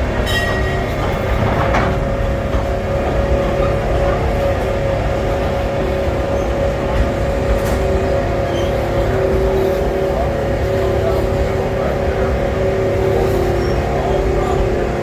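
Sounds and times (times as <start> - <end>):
constant hum: 0.0 - 15.0
train rumbling along track: 0.0 - 15.0.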